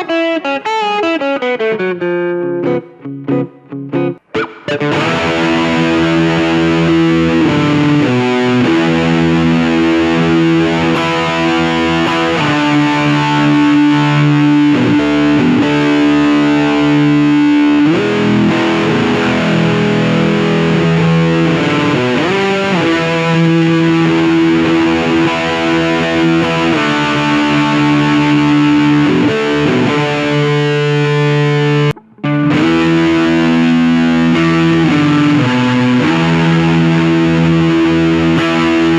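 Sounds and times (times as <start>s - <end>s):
distorted electric guitar chords: 0.0s - 38.9s.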